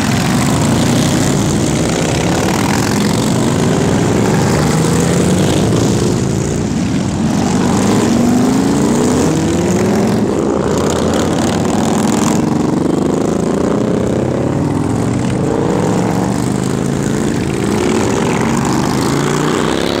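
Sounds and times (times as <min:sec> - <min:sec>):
motorcycle engines accelerating: 0:00.0 - 0:20.0.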